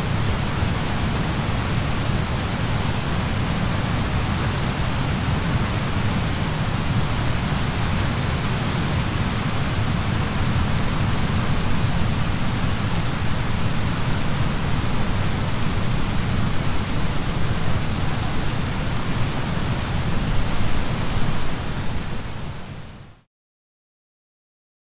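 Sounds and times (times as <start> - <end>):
heavy rain: 0.0 - 23.2.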